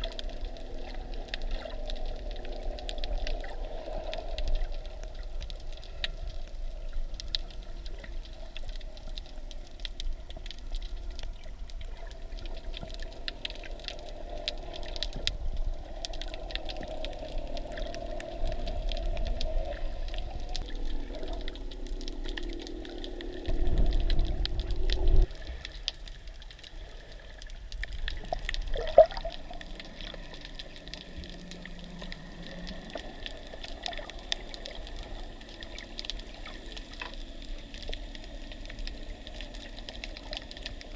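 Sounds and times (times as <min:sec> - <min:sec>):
faint steady hum: 0:00.0 - 0:40.9
fine crackling clicks: 0:00.0 - 0:40.9
low underwater rush: 0:00.0 - 0:40.9
muffled underwater water wash: 0:00.0 - 0:40.9.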